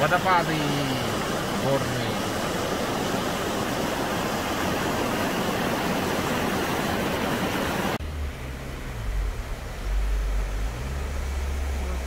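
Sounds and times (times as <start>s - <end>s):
stream rushing over rapids: 0.0s - 12.0s.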